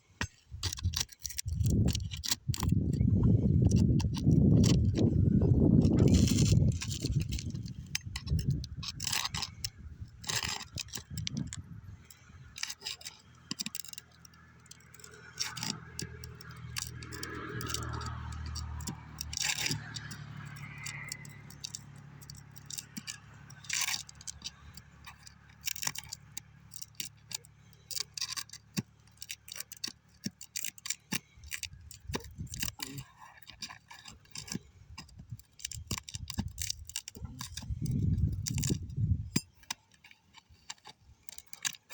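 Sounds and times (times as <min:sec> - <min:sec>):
metal tool scraping under shingles: 0:00.0 - 0:41.9.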